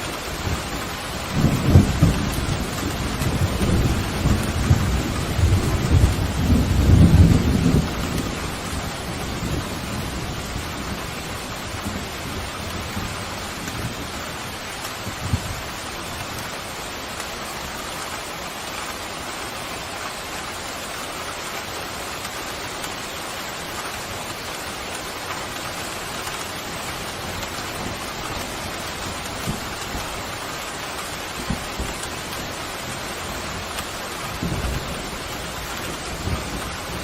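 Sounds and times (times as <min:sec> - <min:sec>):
pouring rain: 0:00.0 - 0:37.0.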